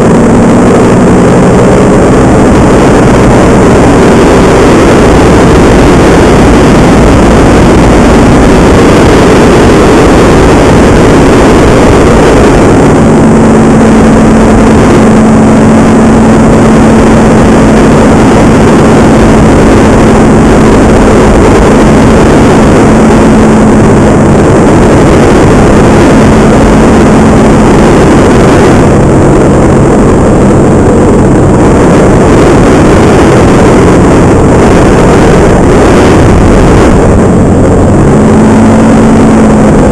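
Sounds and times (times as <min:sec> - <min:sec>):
paramotor engine and propeller: 0:00.0 - 0:39.9
wind noise on microphone: 0:00.0 - 0:39.9.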